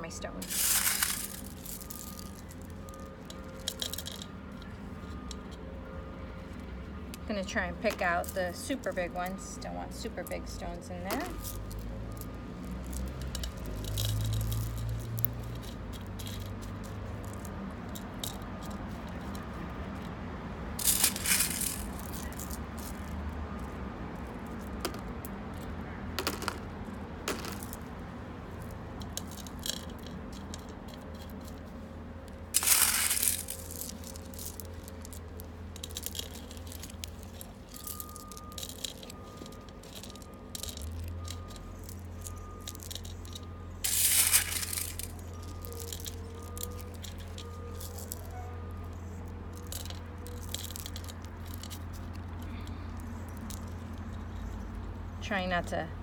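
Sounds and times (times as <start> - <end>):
pebbles clicking and rattling: 0.1 - 5.7, 6.5 - 54.9.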